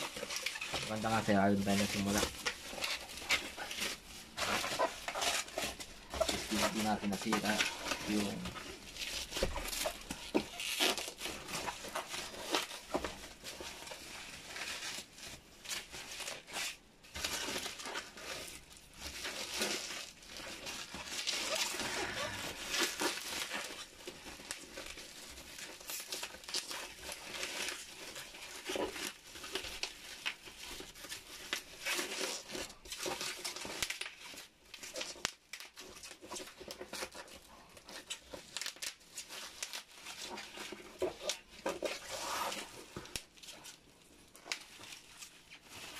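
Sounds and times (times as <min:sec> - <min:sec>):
bubble wrap crinkling: 0:00.0 - 0:45.9.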